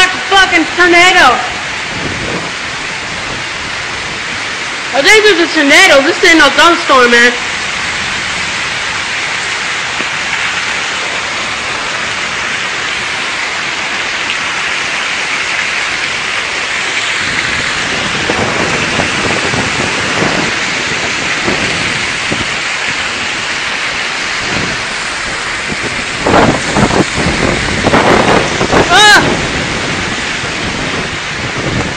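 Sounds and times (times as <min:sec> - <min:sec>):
wind buffeting microphone: 0:00.0 - 0:13.8, 0:17.0 - 0:31.9
heavy rain pouring: 0:00.0 - 0:31.9.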